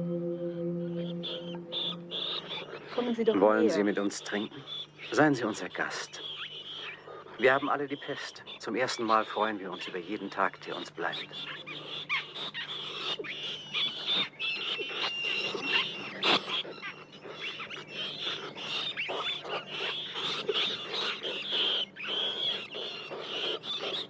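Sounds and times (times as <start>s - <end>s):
rats squeaking: 1.7s - 24.0s.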